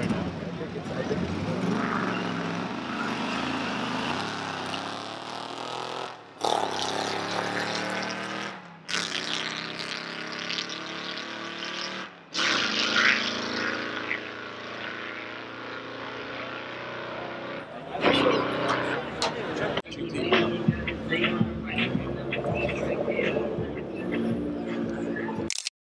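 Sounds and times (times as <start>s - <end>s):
drag racing car engines: 0.0s - 25.5s.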